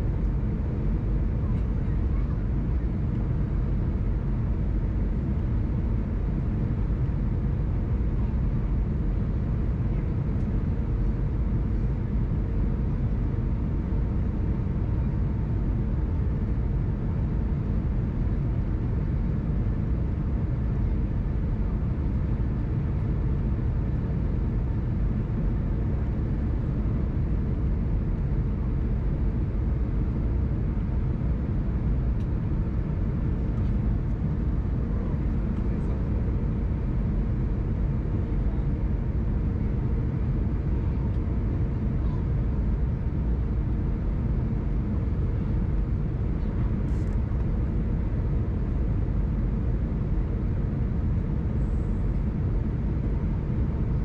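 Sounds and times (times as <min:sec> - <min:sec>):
airliner cabin engine rumble: 0:00.0 - 0:54.0
faint steady hum: 0:00.0 - 0:54.0.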